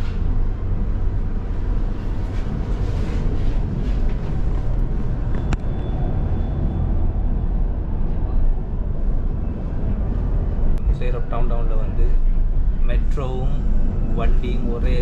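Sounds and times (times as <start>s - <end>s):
tram low rumble: 0.0s - 15.0s.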